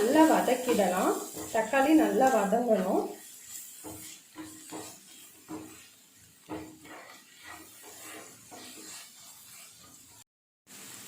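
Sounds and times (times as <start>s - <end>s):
spatula knocking and scraping pan: 0.0s - 10.2s
faint sizzle: 0.0s - 11.0s.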